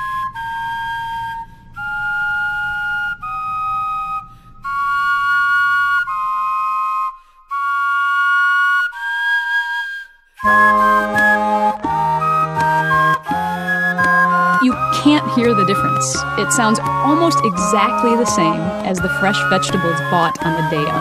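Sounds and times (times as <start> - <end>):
vegetable flutes playing melody: 0.0 - 21.0.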